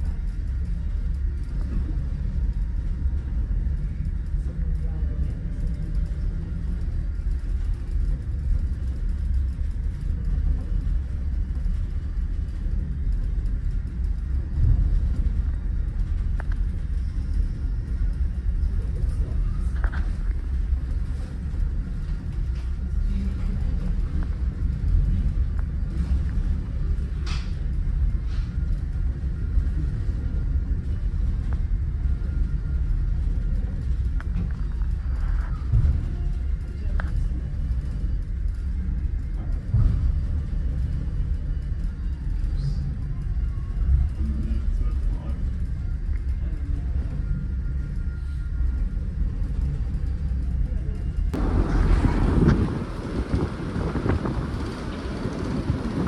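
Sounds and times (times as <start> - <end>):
low rumble on a ferry: 0.0 - 56.0.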